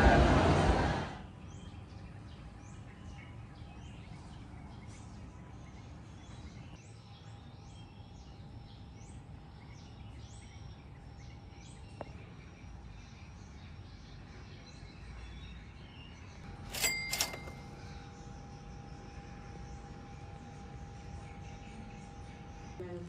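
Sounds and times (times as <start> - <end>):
low outdoor hum: 0.0 - 23.0
birds chirping: 1.3 - 23.0.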